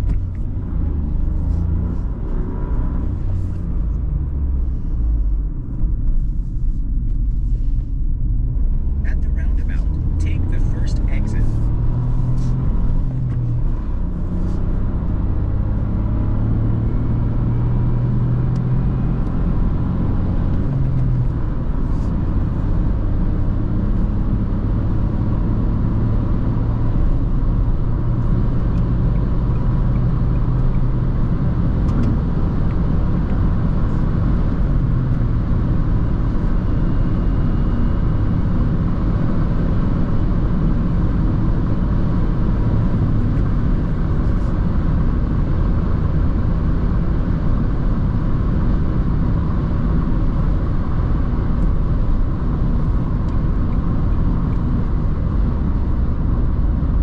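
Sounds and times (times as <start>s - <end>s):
car engine humming: 0.0s - 57.0s
road and tyre noise: 0.0s - 57.0s.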